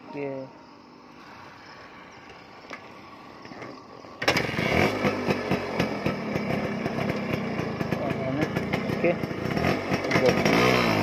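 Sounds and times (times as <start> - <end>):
exhaust crackling: 1.2 - 11.0
motorcycle engine revving: 1.2 - 11.0.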